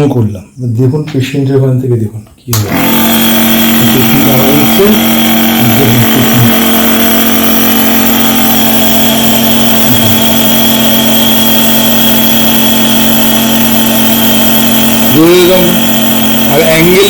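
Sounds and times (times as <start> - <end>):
nebulizer machine humming: 0.8 - 17.0.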